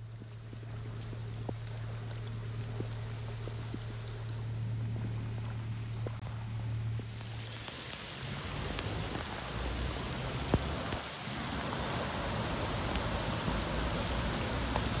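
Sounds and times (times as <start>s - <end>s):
rain falling onto water: 0.0s - 15.0s.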